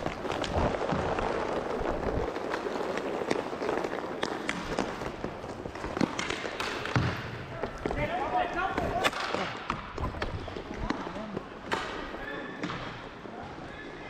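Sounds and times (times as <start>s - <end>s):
hockey sticks and puck clacking: 0.0s - 13.9s
skate wheels rolling rumble: 0.0s - 14.0s.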